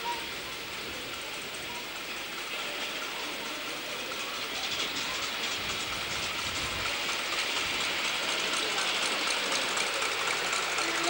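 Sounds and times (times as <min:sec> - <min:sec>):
low locomotive rumble: 0:00.0 - 0:11.0
steam hiss with fine chuffing: 0:00.0 - 0:11.0.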